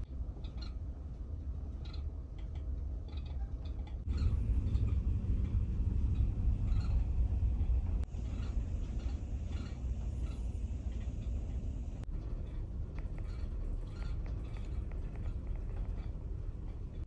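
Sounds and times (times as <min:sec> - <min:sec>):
ferry engine low rumble: 0:00.0 - 0:17.0.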